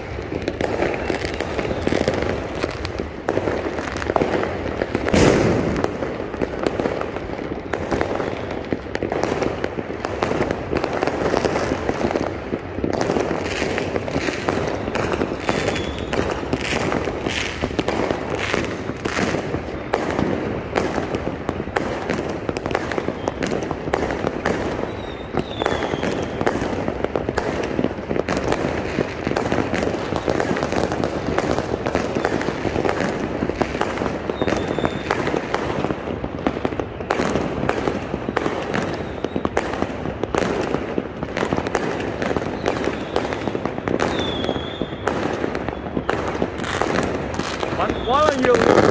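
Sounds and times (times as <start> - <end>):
fireworks whistles: 0.0 - 21.1, 21.7 - 28.6, 31.3 - 35.8, 36.6 - 40.8, 41.4 - 48.9
fireworks bangs and crackles: 0.0 - 48.9.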